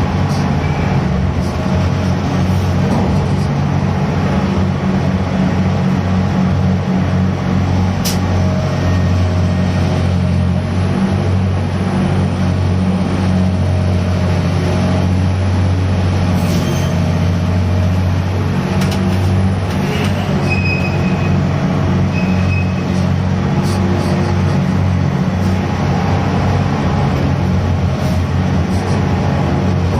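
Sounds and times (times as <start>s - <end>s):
heavy ship engine running: 0.0s - 29.9s.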